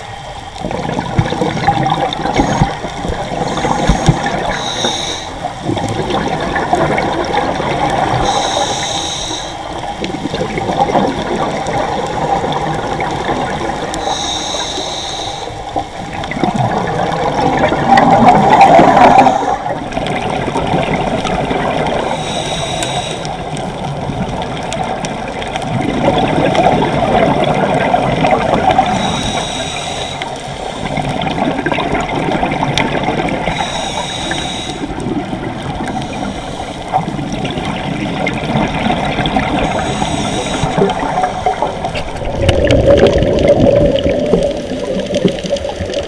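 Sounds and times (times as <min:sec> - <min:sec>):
hiss: 0:00.0 - 0:46.0
water churning and bubbling: 0:00.0 - 0:46.0.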